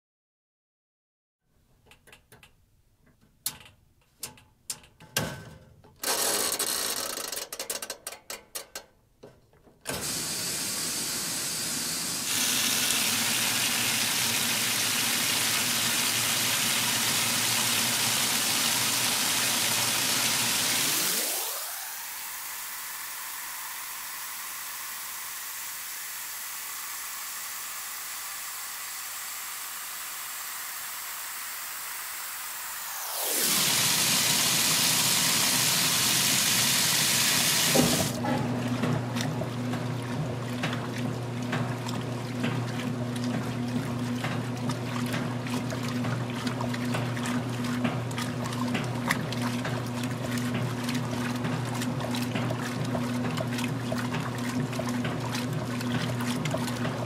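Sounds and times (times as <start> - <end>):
water pouring into washer tub: 10.0 - 57.0.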